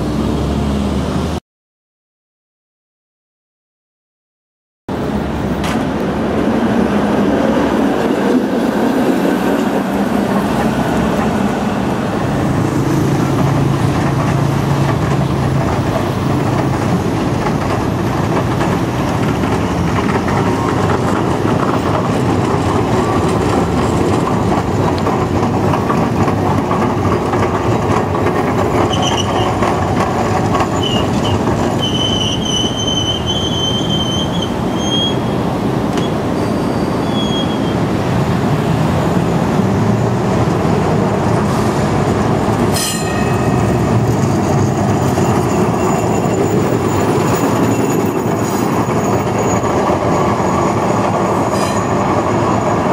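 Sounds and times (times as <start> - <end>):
streetcar rolling on rails: 0.0 - 1.4, 4.9 - 52.9
wheels squealing on rails: 6.8 - 52.9.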